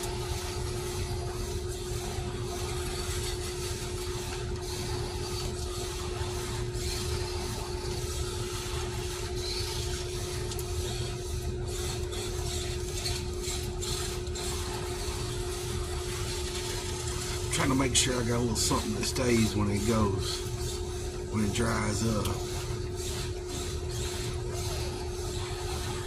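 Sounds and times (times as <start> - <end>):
steady hum: 0.0 - 26.0
toy truck drivetrain whirring: 0.0 - 26.0.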